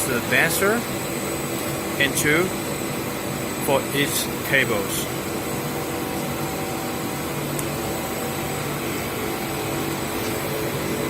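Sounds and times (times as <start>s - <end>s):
machinery motors and fans humming: 0.0s - 11.0s.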